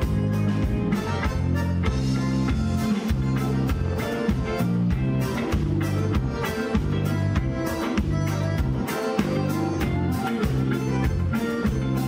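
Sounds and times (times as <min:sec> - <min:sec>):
accordion: 0:00.0 - 0:12.0
band playing: 0:00.0 - 0:12.0.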